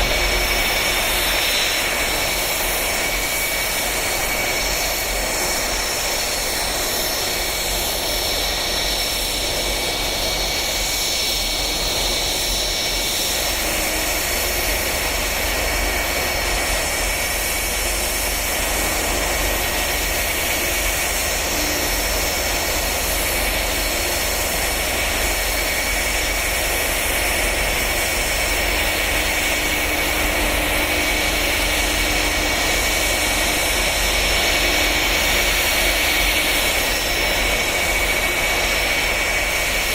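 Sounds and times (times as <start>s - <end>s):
jet engine whine: 0.0s - 39.9s.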